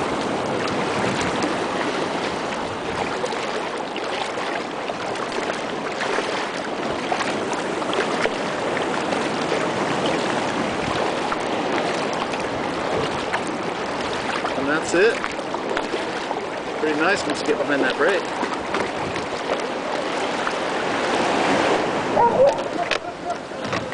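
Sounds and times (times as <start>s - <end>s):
water splashing against a kayak: 0.0s - 23.9s.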